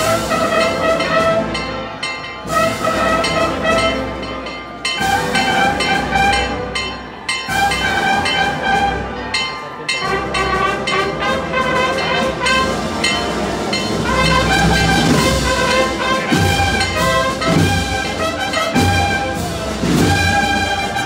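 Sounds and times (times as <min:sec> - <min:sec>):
wind band playing a march: 0:00.0 - 0:21.0.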